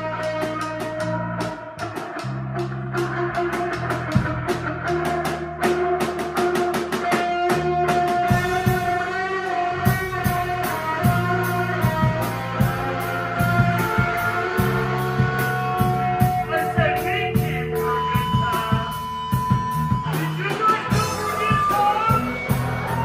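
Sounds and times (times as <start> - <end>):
bass guitar: 0.0 - 23.0
drum kit steady beat: 0.0 - 23.0
electric guitar: 0.0 - 23.0.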